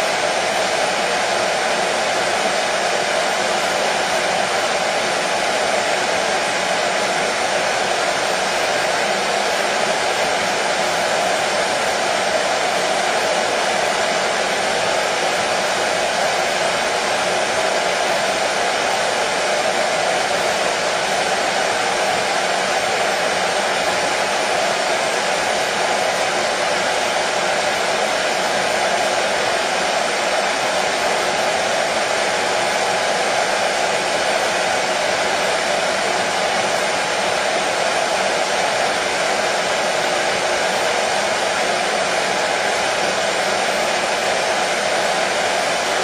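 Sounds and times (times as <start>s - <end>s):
hair dryer blowing: 0.0s - 46.0s.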